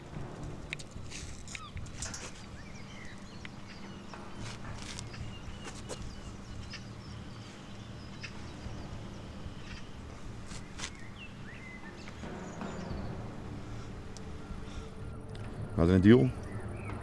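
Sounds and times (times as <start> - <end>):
steady low hum: 0.0 - 17.0
bird chirps: 0.7 - 17.0.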